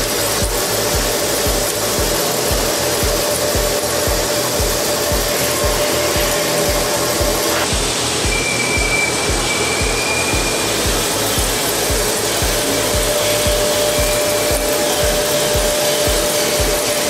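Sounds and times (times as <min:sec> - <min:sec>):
background music with low beat: 0:00.0 - 0:17.0
drill cutting metal: 0:00.0 - 0:17.0
steady machine whine: 0:00.0 - 0:17.0.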